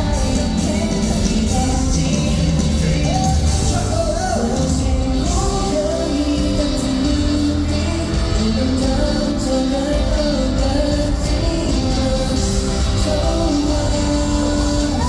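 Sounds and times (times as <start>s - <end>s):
person singing: 0.0s - 15.0s
pop song with live band: 0.0s - 15.0s.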